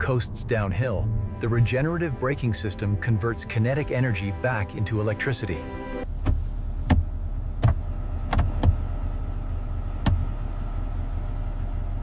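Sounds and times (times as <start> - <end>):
low car hum: 0.0 - 12.0.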